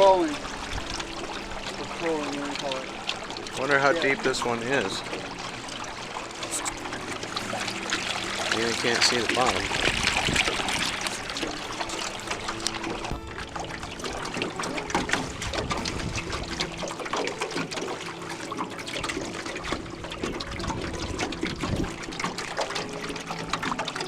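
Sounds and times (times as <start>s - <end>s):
water splashing along boat hull: 0.0s - 24.0s.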